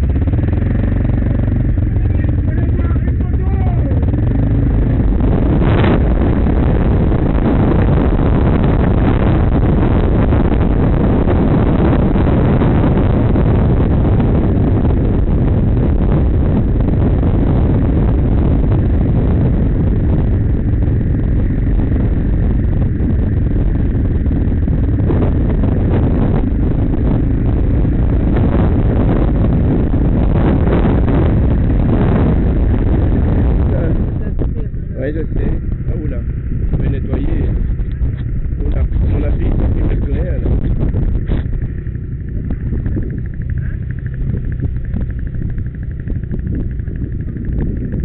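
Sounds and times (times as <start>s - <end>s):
motorcycle engine rumble: 0.0s - 48.0s
wind buffeting microphone: 0.0s - 48.0s.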